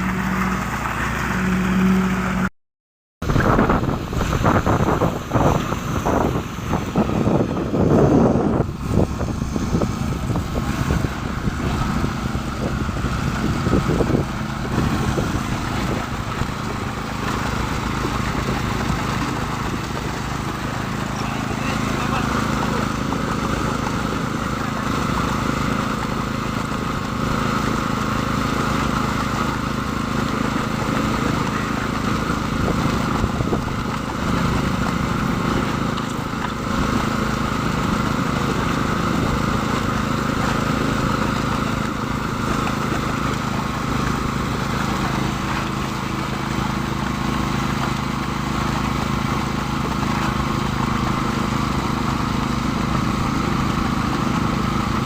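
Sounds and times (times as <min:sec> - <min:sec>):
machinery engine running steadily: 0:00.0 - 0:02.5, 0:03.2 - 0:55.0.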